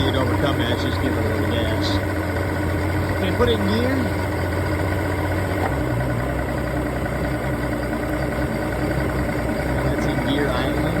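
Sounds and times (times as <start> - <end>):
outboard engine idling: 0.0 - 11.0.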